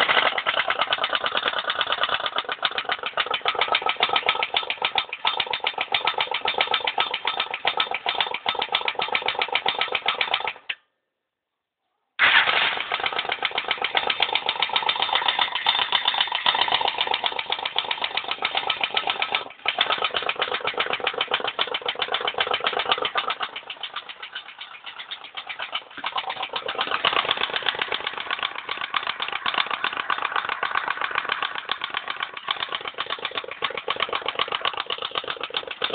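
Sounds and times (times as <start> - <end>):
motorcycle engine knocking: 0.0 - 10.8, 12.8 - 35.9.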